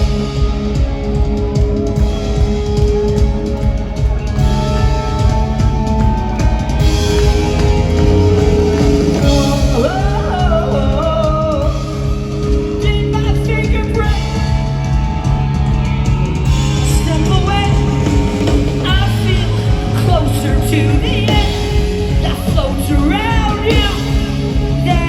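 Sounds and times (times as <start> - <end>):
rock music with singing: 0.0 - 25.0.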